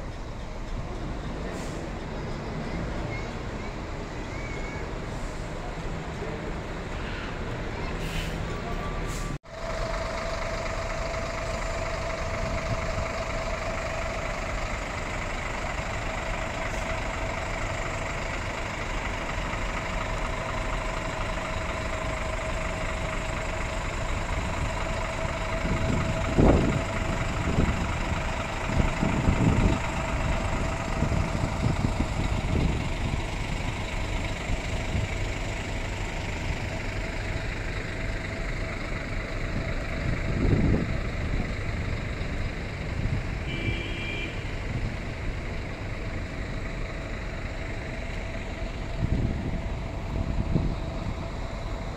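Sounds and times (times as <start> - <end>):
diesel bus engine idling: 0.0 - 51.9
engine whine: 0.0 - 51.9.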